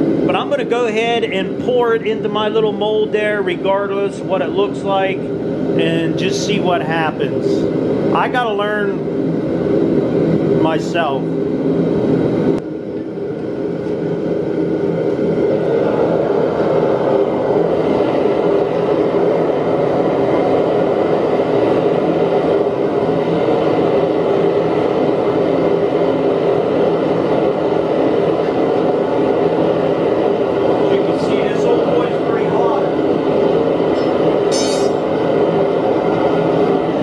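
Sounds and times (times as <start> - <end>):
gas burner roaring: 0.0 - 37.0.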